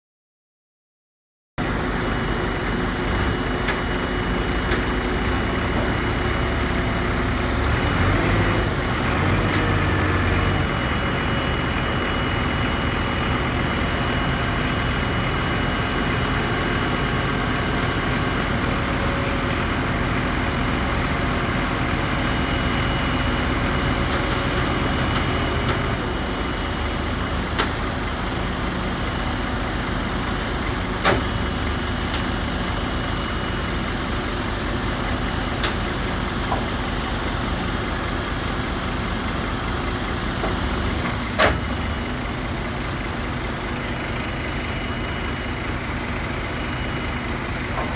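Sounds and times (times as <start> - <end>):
truck diesel engine idling: 1.6 - 47.9.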